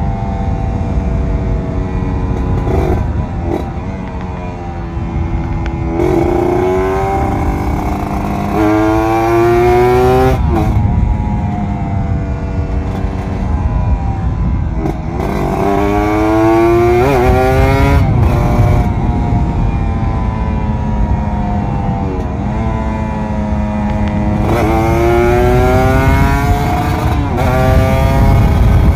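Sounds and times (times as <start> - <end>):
motorcycle engine accelerating: 0.0 - 28.9
wind rumble: 0.0 - 28.9.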